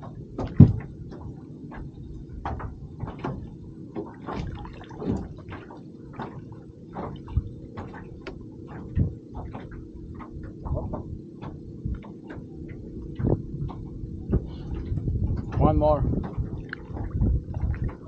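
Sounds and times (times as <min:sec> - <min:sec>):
steady low hum: 0:00.0 - 0:18.0
light knocks and clicks: 0:00.1 - 0:17.1.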